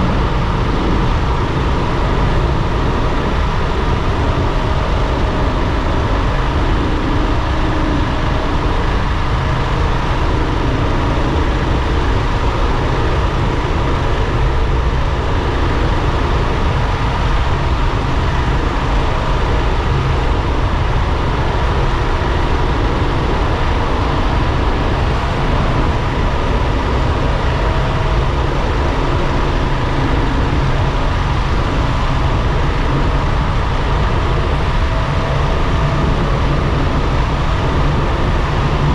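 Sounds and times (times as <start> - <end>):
faint steady whine: 0.0 - 38.9
road and wind rumble: 0.0 - 38.9.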